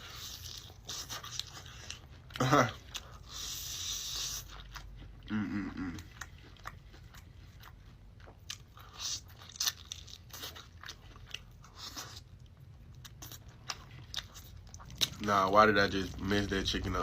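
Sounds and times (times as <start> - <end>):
person chewing and crunching: 0.0 - 17.0.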